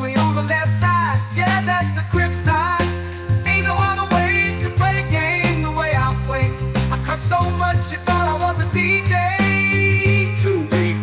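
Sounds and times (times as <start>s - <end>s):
soul music: 0.0s - 11.0s.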